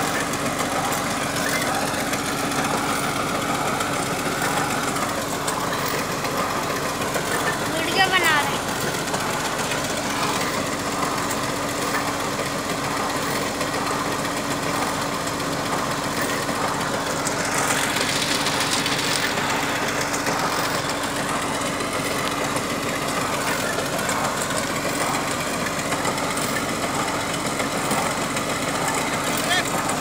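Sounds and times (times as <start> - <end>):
drilling rig engine humming: 0.0 - 30.0.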